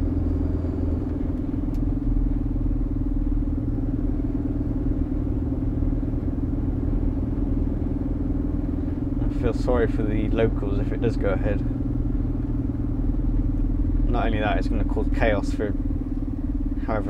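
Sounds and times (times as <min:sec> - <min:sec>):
lorry diesel engine droning: 0:00.0 - 0:17.0
road rumble: 0:00.0 - 0:17.0.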